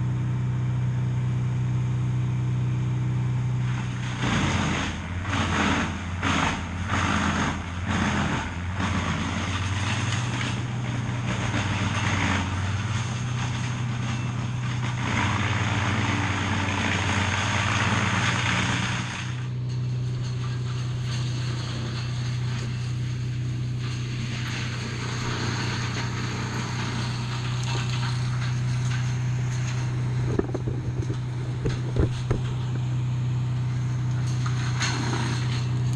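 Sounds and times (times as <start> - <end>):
engine humming: 0.0 - 35.9.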